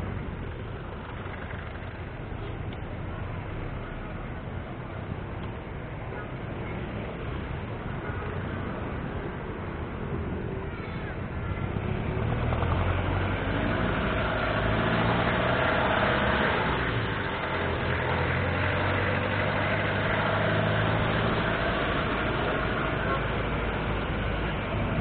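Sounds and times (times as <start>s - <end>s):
road traffic engine noise: 0.0s - 25.0s.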